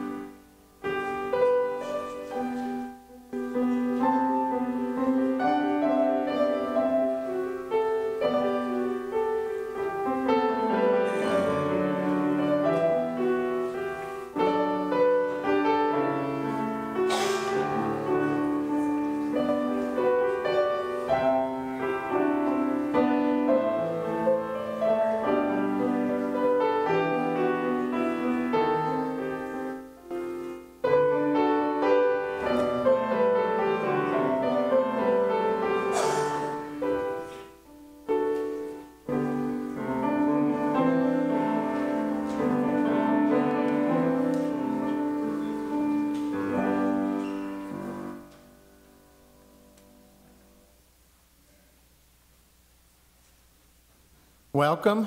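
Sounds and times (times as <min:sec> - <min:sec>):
grand piano playing: 0:00.0 - 0:51.0.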